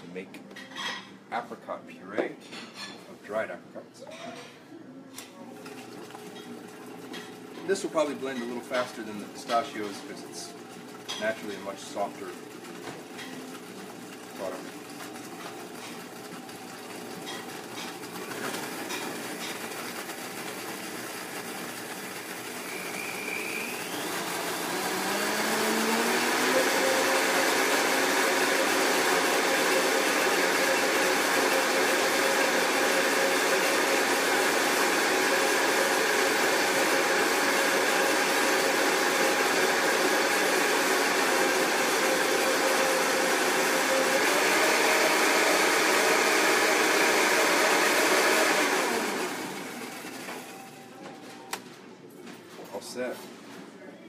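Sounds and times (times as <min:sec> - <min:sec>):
blender motor running: 0:05.5 - 0:50.8.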